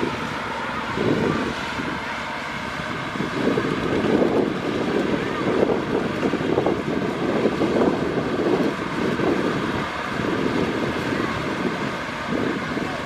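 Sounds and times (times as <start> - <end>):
combine harvester running: 0.0 - 13.0
wind buffeting microphone: 0.0 - 13.0.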